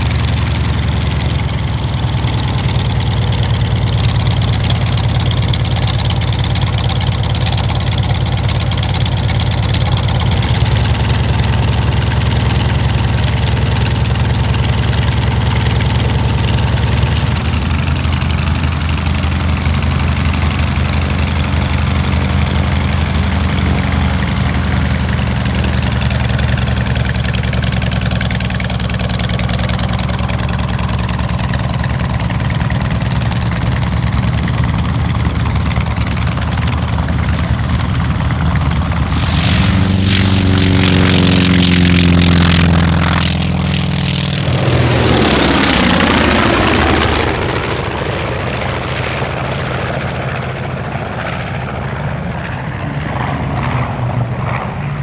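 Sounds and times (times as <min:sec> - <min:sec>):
radial aircraft engine idling: 0:00.0 - 0:55.0.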